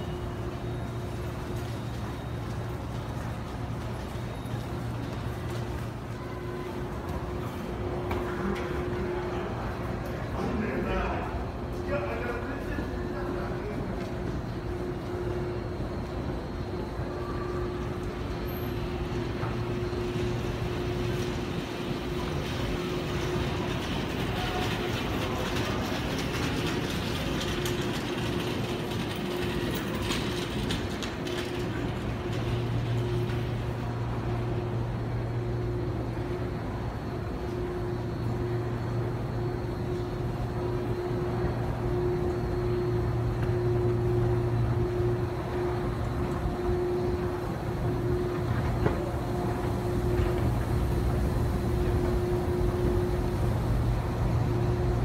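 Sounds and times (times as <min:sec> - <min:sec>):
continuous background rush: 0:00.0 - 0:55.0
steady mechanical hum: 0:00.0 - 0:55.0.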